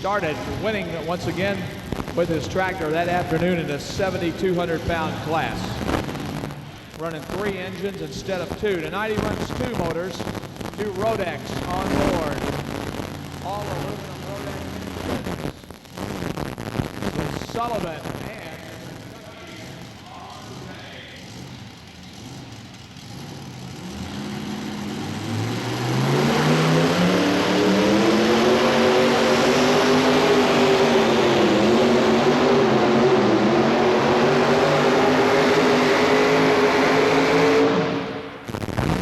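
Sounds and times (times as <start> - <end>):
tractor engines roaring: 0.0 - 15.8, 17.4 - 38.7.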